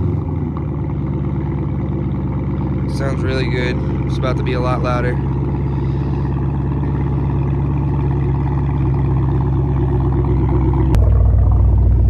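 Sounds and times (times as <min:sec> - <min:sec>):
car engine idling: 0:00.0 - 0:12.0
deep engine rumble: 0:00.0 - 0:12.0.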